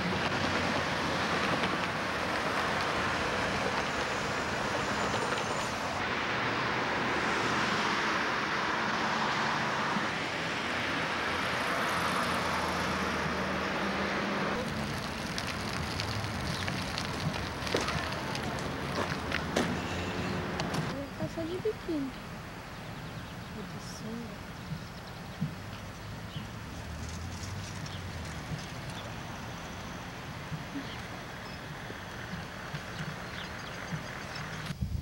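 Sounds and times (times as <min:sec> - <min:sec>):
city street traffic: 0:00.0 - 0:34.8.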